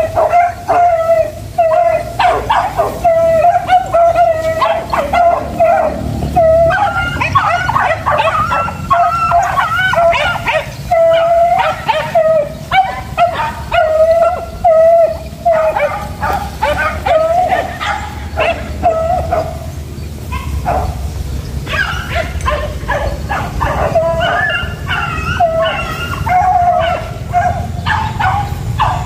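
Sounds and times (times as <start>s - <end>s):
dogs baying and yelping: 0.0s - 29.0s.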